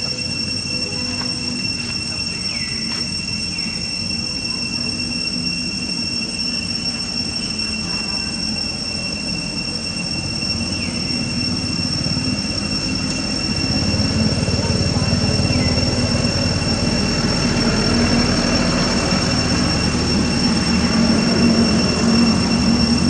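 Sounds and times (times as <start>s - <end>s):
insects droning high whine: 0.0s - 23.0s.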